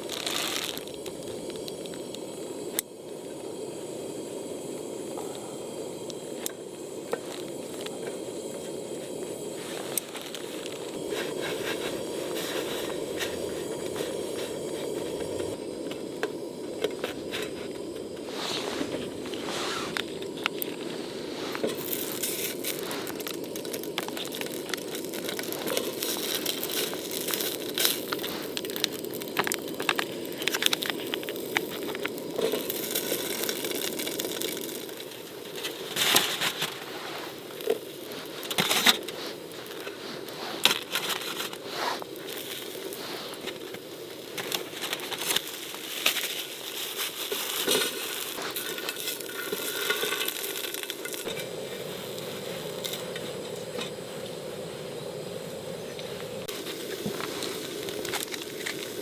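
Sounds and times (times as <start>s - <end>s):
irregular crackling and crunching: 0.0s - 2.9s, 4.3s - 54.0s, 56.4s - 59.0s
steady hiss: 0.0s - 59.0s.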